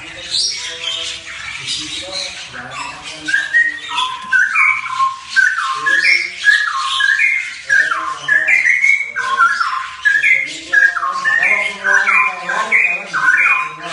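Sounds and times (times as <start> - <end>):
starlings calling: 0.0 - 13.9.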